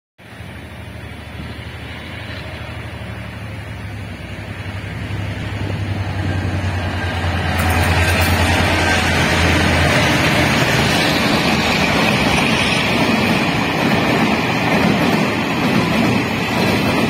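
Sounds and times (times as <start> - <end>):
diesel locomotive engine roaring: 0.2 - 17.0.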